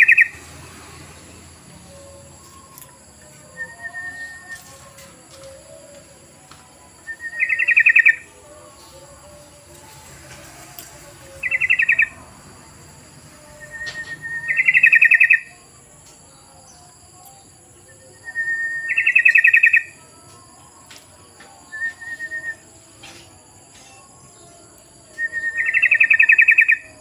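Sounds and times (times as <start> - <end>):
bird singing rattling phrases: 0.0 - 5.9, 7.0 - 20.2, 21.3 - 27.0.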